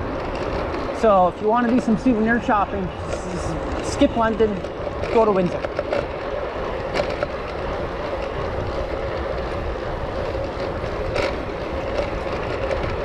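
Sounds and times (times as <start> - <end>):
distant vehicle rumble: 0.0 - 13.0
faint constant hum: 0.0 - 13.0.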